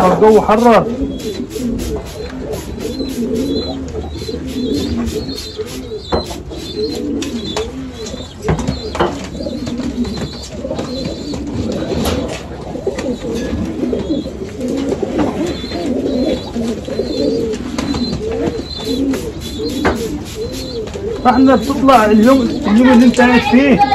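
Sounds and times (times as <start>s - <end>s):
pigeons cooing: 0.0s - 23.9s.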